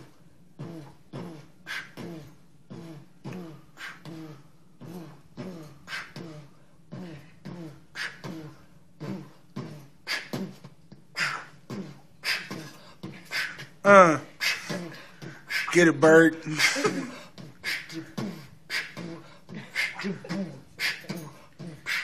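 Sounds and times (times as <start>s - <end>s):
beatboxing kick sounds: 0.0s - 15.9s, 16.5s - 22.0s
beatboxing hissing snare: 0.0s - 22.0s.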